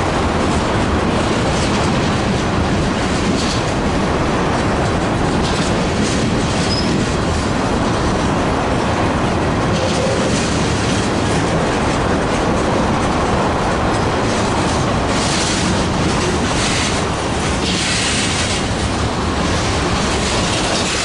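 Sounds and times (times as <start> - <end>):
freight train cars rolling past: 0.0 - 21.0.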